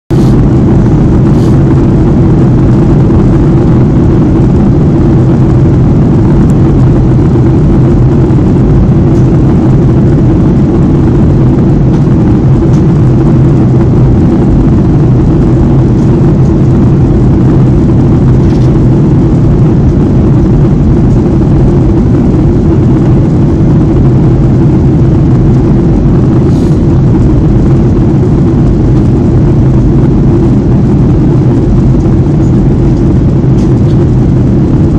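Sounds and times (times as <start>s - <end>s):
airplane cabin engine drone: 0.1s - 34.9s.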